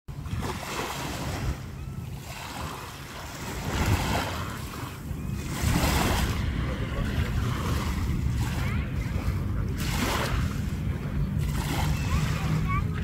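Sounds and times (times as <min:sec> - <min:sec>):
small waves breaking on sand: 0:00.1 - 0:13.0
wind rumbling on microphone: 0:00.1 - 0:13.0.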